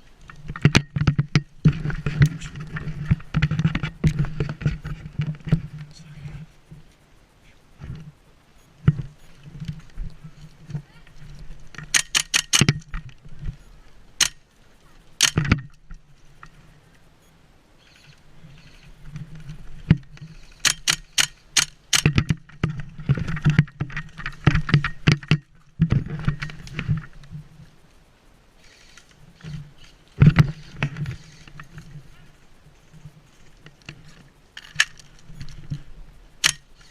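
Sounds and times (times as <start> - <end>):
gear rattling: 0.0 - 6.8, 8.8 - 16.8, 17.8 - 27.6, 28.6 - 36.9.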